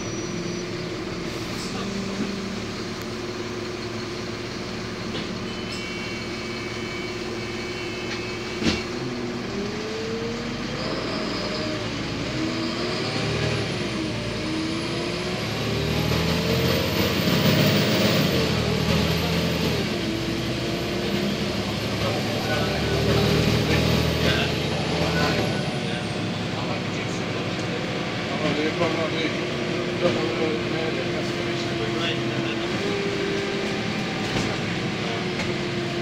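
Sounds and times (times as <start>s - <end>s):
bus diesel engine hum: 0.0s - 36.0s.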